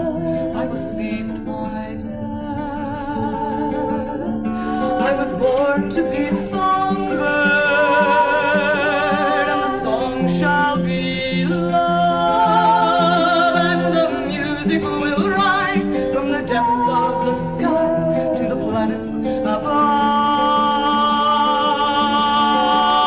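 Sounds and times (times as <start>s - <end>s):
woman singing with vibrato: 0.0s - 23.0s.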